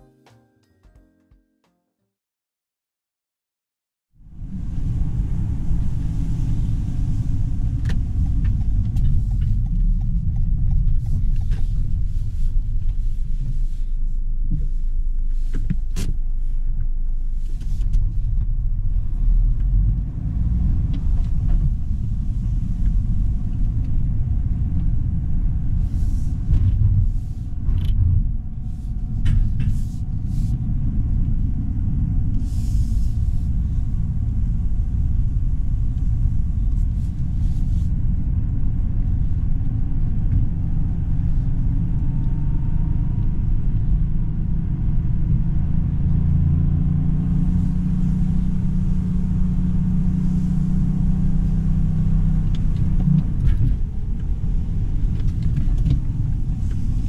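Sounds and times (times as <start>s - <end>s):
car engine deep rumble: 4.2s - 57.0s.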